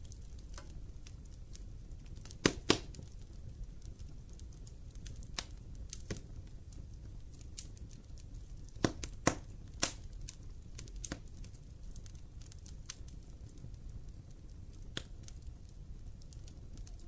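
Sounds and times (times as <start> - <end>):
low rumble of flames: 0.0 - 17.0
wood fire popping and snapping: 0.0 - 17.0.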